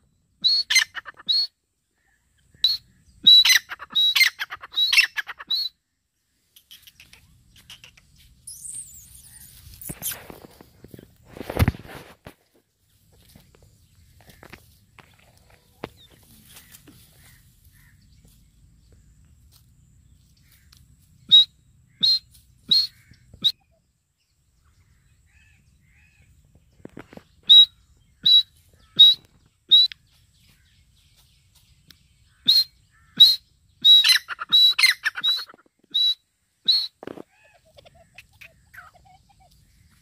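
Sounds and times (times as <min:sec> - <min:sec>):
partridge calling: 0:00.4 - 0:05.8, 0:06.4 - 0:11.1, 0:13.3 - 0:18.4, 0:20.3 - 0:23.8, 0:24.6 - 0:30.8, 0:32.2 - 0:40.0.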